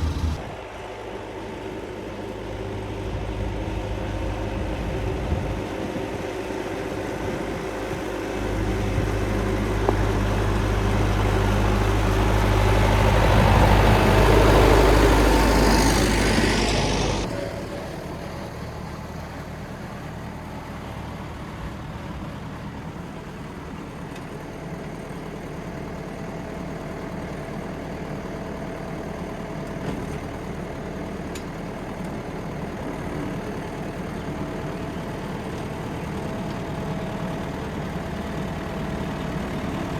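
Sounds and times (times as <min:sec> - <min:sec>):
tractor engine running: 0:00.0 - 0:29.7, 0:30.3 - 0:39.9.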